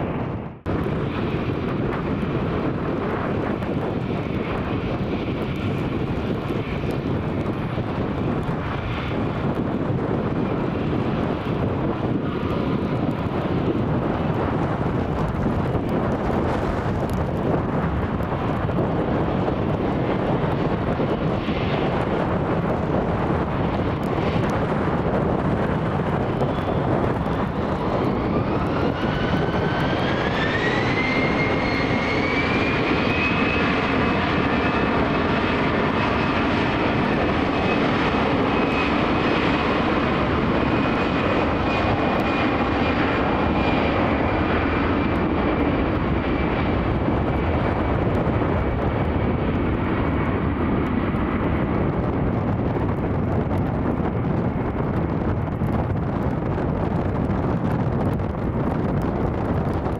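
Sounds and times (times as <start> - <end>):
jet engine roar: 0.0 - 59.9
jet engine whine: 0.0 - 59.9.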